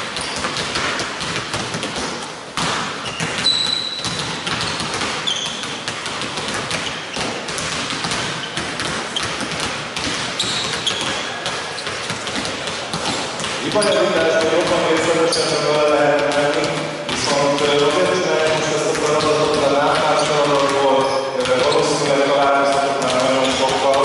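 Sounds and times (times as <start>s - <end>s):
basketballs bouncing on hardwood: 0.0s - 24.0s
sneakers squeaking on floor: 0.0s - 24.0s.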